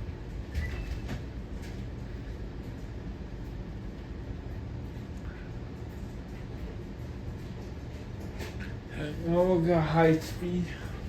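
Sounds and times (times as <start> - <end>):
ceiling fan motor hum: 0.0 - 11.0.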